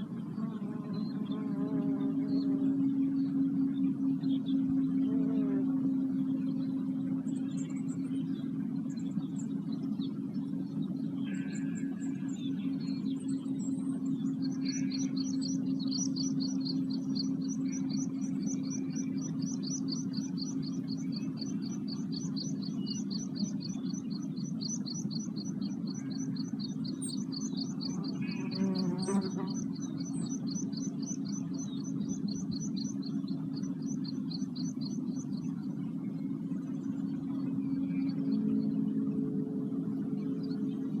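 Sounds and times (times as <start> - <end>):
songbird singing: 0.0 - 41.0
steady low hum: 0.0 - 41.0.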